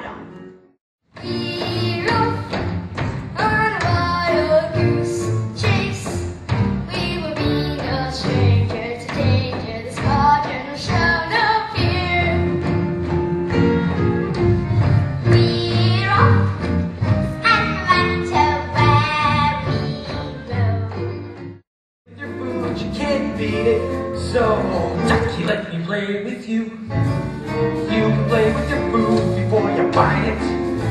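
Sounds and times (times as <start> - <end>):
show tune with singing: 1.2 - 21.5, 22.1 - 30.9.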